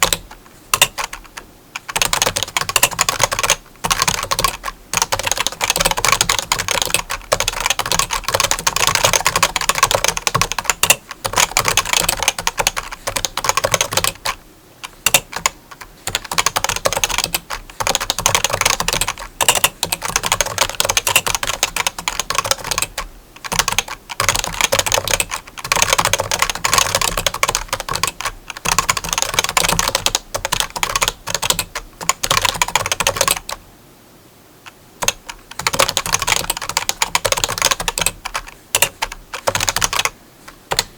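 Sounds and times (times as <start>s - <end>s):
keyboard typing clicks: 0.0s - 33.6s, 35.0s - 40.9s.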